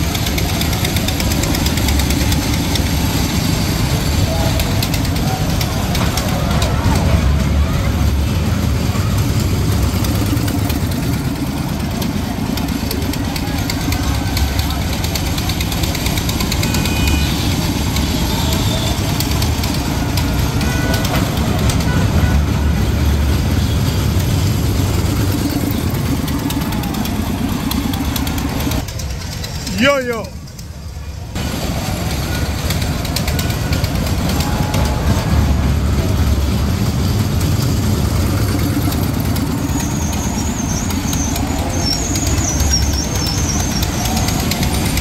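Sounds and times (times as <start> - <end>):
coaster cars rumbling on track: 0.0 - 45.0
small engine running: 0.0 - 45.0.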